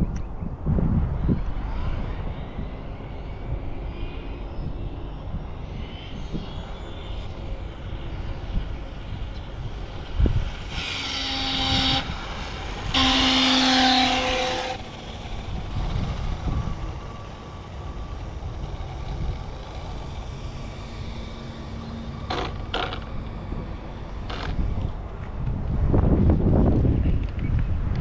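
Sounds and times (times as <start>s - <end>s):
road traffic rumbling: 1.5s - 28.0s.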